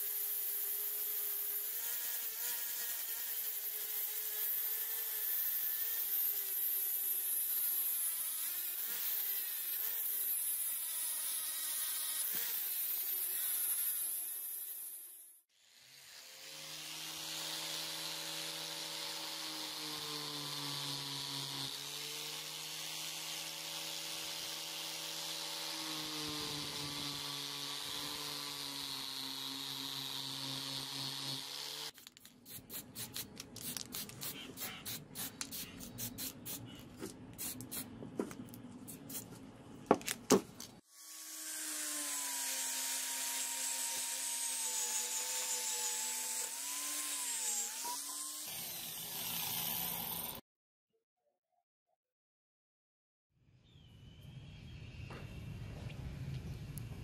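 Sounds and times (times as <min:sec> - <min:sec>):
angle grinder buffing metal: 0:00.0 - 0:36.6, 0:40.9 - 0:50.4.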